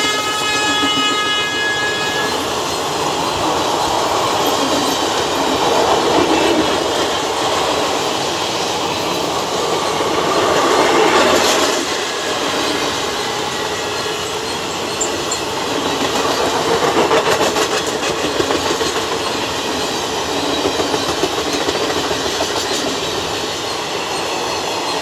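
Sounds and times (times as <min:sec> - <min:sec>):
train wheels rumbling on rail: 0:00.0 - 0:25.0
wheels clickety-clack over rail joints: 0:00.0 - 0:25.0.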